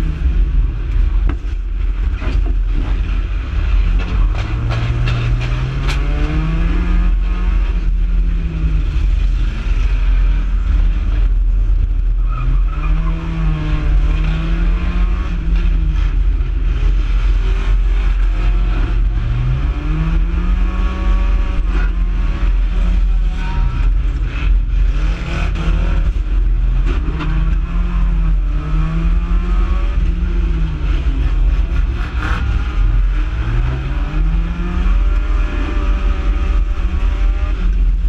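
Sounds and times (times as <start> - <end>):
race car engine revving: 0.0 - 38.0.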